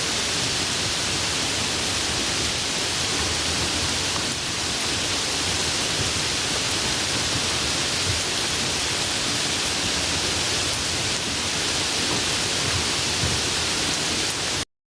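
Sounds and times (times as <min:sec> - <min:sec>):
steady hiss: 0:00.0 - 0:14.6.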